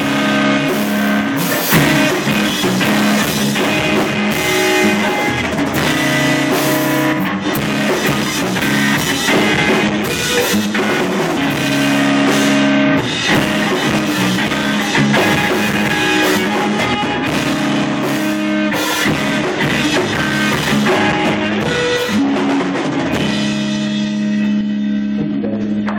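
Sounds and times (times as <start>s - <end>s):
drum kit: 0.0s - 25.9s
electric guitar: 0.0s - 25.9s.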